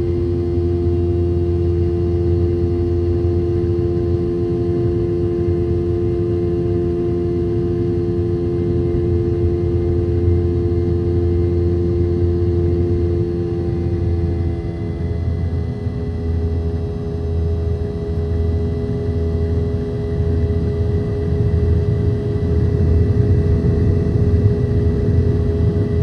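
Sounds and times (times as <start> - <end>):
aircraft cabin engine drone: 0.0 - 26.0.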